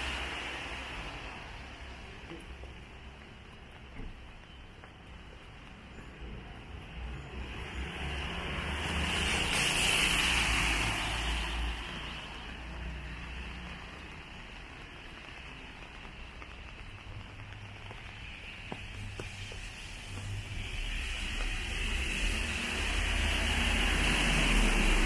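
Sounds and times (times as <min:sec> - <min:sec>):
rain hiss: 0:00.0 - 0:25.0
tyres hissing on wet road: 0:00.0 - 0:25.0.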